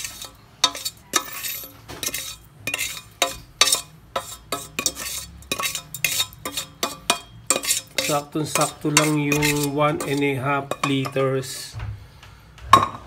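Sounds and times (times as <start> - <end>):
metal pot clinking and scraping: 0.0 - 11.7.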